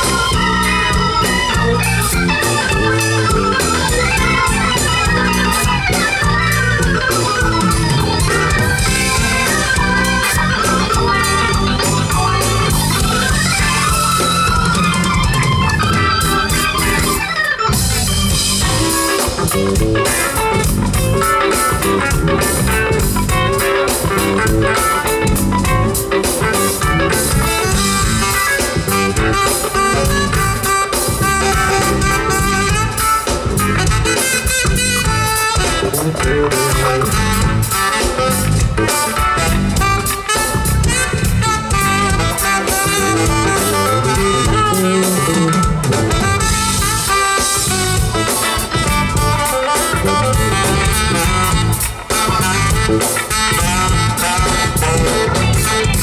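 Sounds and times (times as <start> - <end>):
drum kit: 0.0 - 56.0
electric bass: 0.0 - 56.0
electric guitar: 0.0 - 56.0
organ-toned keyboard lead: 0.0 - 56.0.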